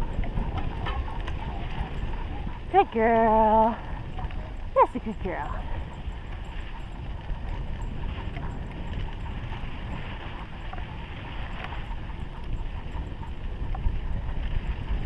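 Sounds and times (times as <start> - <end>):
crunching on dirt trail: 0.0 - 15.0
wind on microphone: 0.0 - 15.0.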